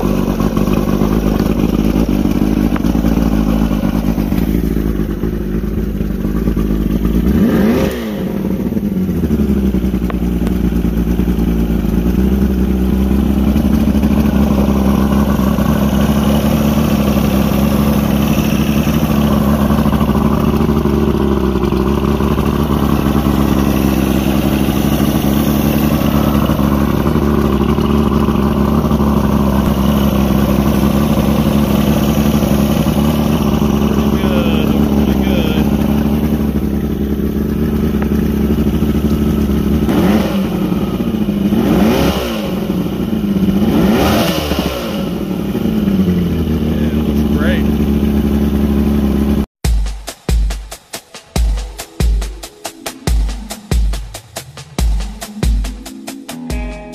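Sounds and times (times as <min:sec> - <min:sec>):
outboard motor running: 0:00.0 - 0:49.5.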